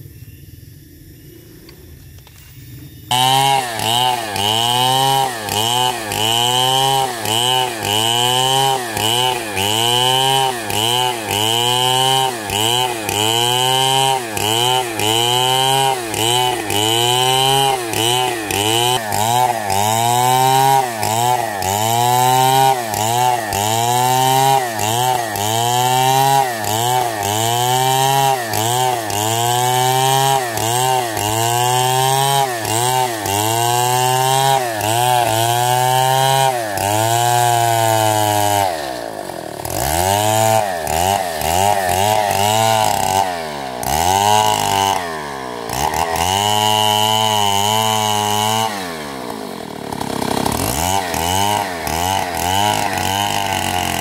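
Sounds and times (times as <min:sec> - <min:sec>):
chainsaw ripping along log: 0:03.1 - 0:54.0.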